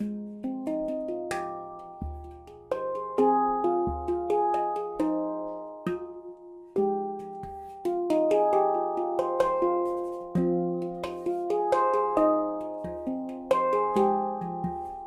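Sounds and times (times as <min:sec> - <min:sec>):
handpan notes ringing: 0:00.0 - 0:15.0.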